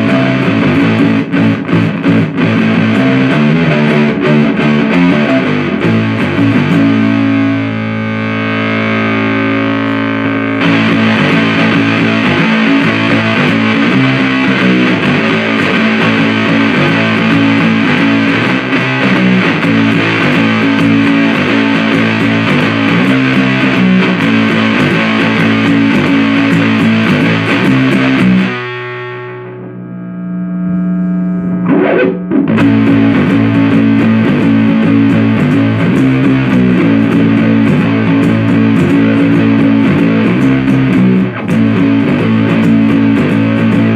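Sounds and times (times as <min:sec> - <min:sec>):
distorted electric guitar riffing: 0:00.0 - 0:43.9.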